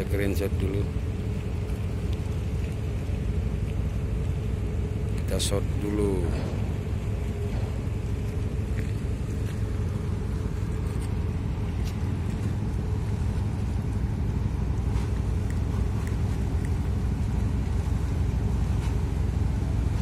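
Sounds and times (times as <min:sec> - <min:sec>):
ferry engines rumbling: 0:00.0 - 0:20.0.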